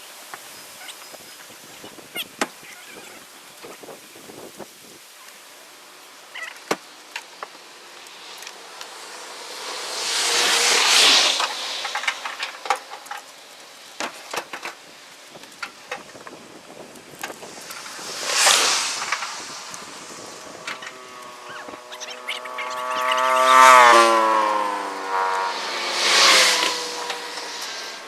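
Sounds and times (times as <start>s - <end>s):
water rushing and splashing: 0.0s - 24.6s.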